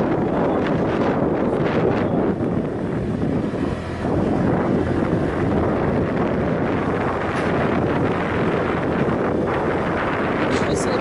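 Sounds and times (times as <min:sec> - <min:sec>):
motorbike running: 0:00.0 - 0:11.0
wind buffeting microphone: 0:00.0 - 0:11.0.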